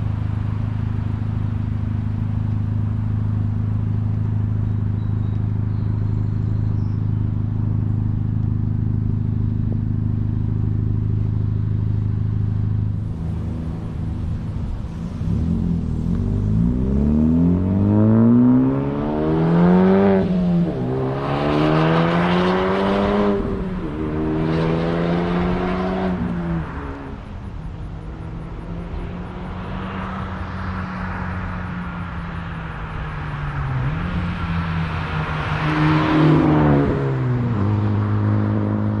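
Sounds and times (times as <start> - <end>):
car engine accelerating and shifting: 0.0 - 39.0.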